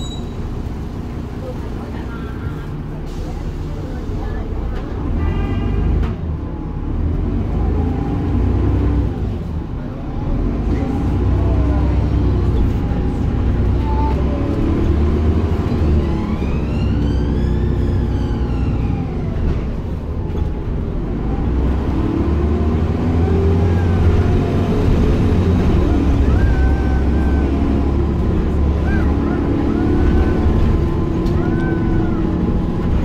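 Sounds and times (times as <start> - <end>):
bus engine drone: 0.0 - 33.0
rumble of the ride: 0.0 - 33.0.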